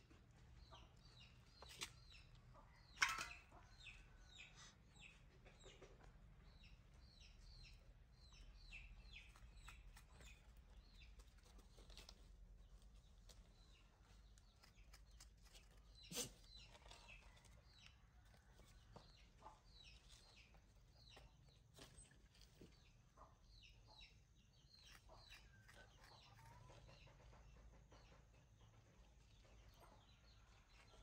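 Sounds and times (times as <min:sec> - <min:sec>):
faint bird chirps and clucks: 0:00.0 - 0:31.0.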